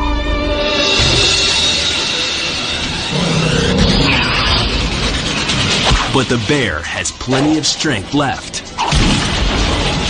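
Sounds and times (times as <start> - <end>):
dramatic music with held notes: 0.0 - 10.0.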